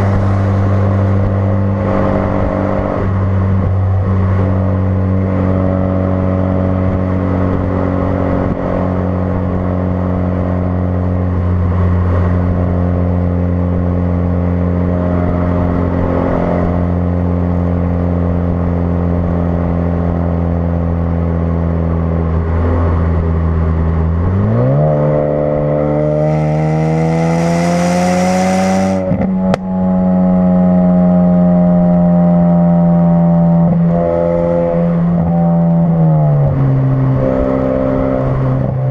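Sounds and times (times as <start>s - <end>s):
car engine droning and accelerating: 0.0s - 38.9s.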